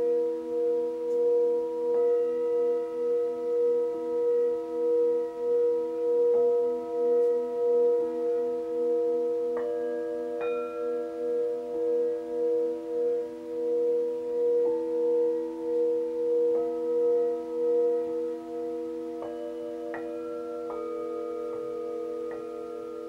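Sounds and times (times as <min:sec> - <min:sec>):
singing bowls ringing: 0:00.0 - 0:23.0.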